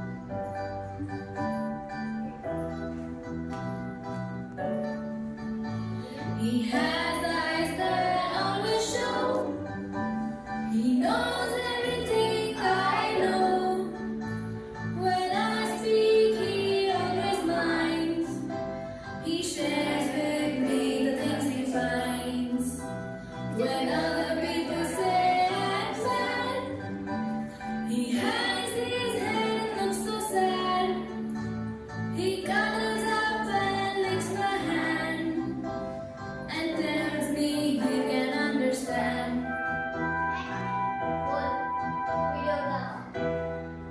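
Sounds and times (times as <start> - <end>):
instrumental backing: 0.0 - 43.9.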